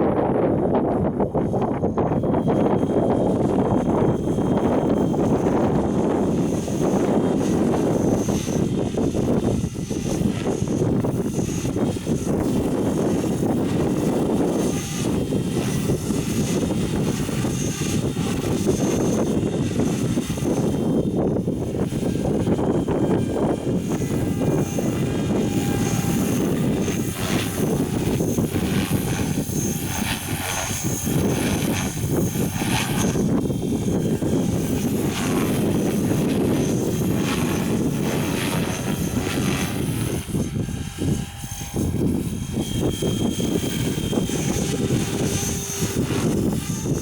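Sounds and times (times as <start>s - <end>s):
model helicopter whine: 0.0s - 47.0s
wind buffeting microphone: 0.0s - 47.0s.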